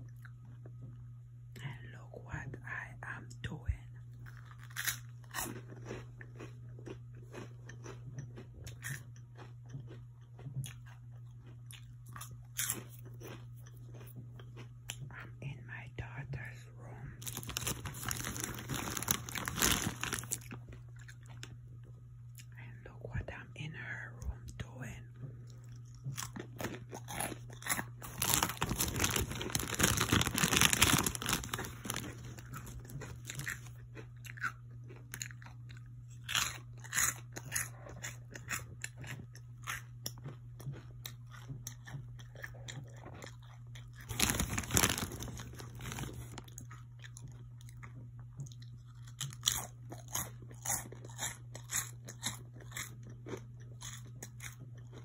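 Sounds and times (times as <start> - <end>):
person crunching and chewing snacks: 4.1 - 23.4, 24.2 - 55.0.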